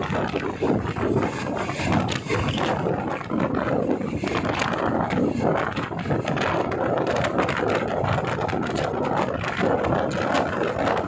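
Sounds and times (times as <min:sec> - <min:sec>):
train rumbling on track: 0:00.0 - 0:11.0
wheels clattering on rails: 0:00.0 - 0:11.0.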